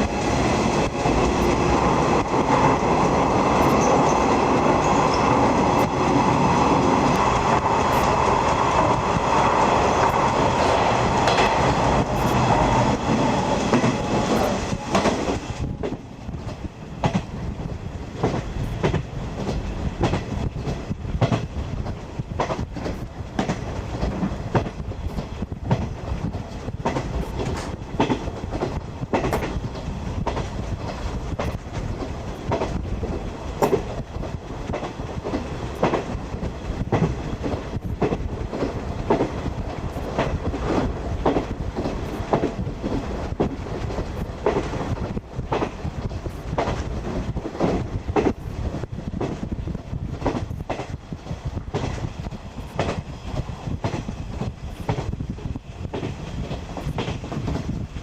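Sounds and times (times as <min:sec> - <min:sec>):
train coach rumbling on rails: 0:00.0 - 0:58.0
wheels clacking over rail joints: 0:00.0 - 0:58.0.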